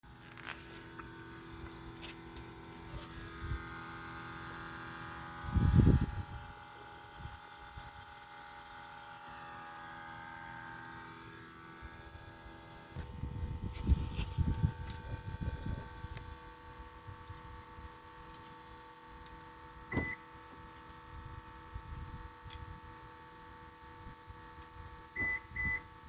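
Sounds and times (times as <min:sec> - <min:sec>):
low hum: 0:00.1 - 0:25.8.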